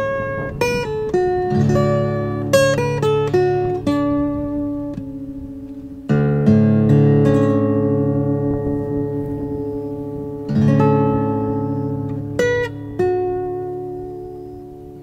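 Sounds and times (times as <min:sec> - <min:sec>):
guitar plucking slow notes: 0:00.0 - 0:15.0.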